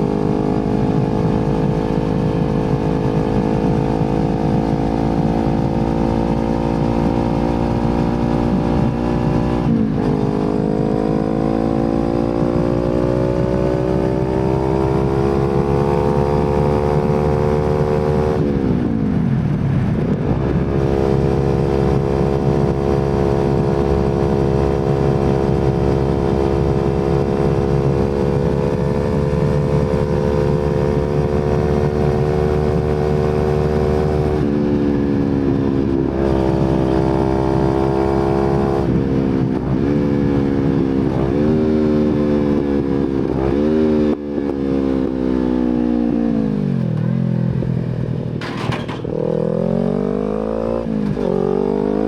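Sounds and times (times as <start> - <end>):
motorcycle engine while riding: 0.0 - 52.0.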